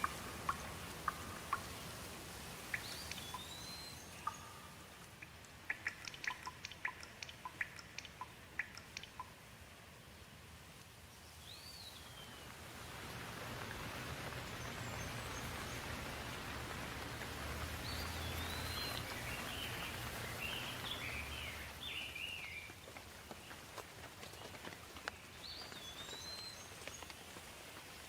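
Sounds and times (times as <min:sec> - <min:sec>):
birds chirping: 0:00.0 - 0:09.4, 0:11.2 - 0:27.9
rain falling: 0:00.0 - 0:28.0.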